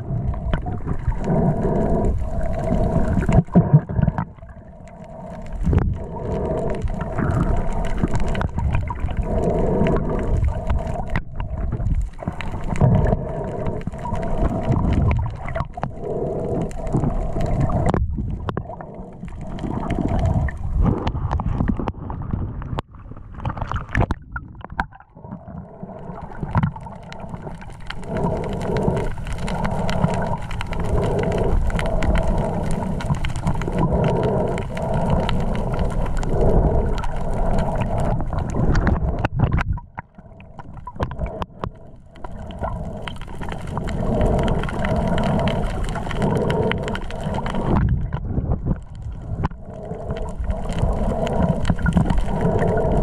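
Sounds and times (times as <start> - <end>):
muffled water rushing and gurgling: 0.0 - 53.0.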